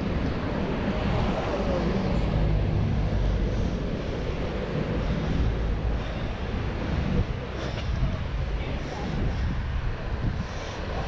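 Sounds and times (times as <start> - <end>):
street traffic: 0.0 - 11.0
wind buffeting microphone: 0.0 - 11.0.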